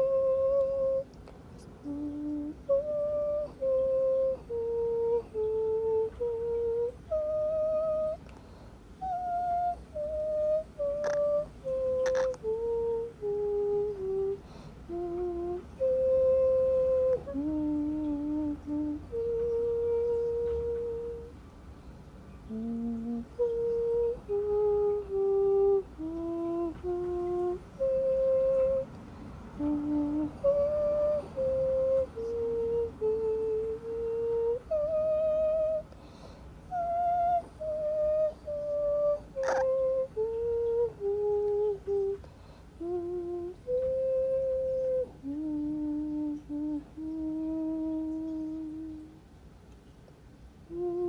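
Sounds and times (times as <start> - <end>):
person humming a lullaby: 0.0 - 21.4, 22.5 - 49.2, 50.6 - 51.0.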